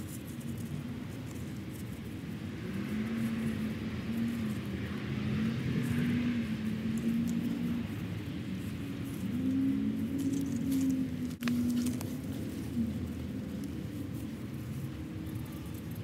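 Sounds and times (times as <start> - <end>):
faint rustles: 0.0 - 16.0
steady engine hum: 0.0 - 16.0.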